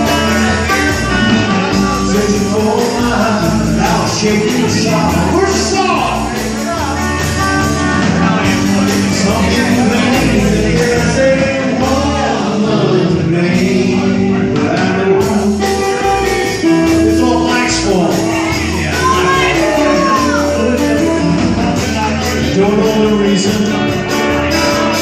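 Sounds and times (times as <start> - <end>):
rock and roll band music: 0.0 - 25.0.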